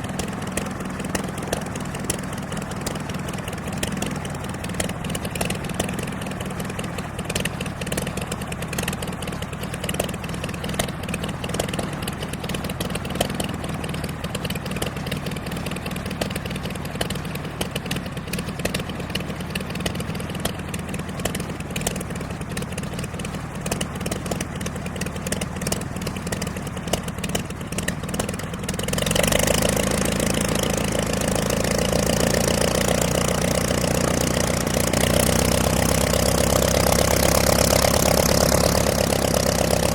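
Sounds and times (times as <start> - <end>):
piston aircraft engine: 0.0 - 39.9.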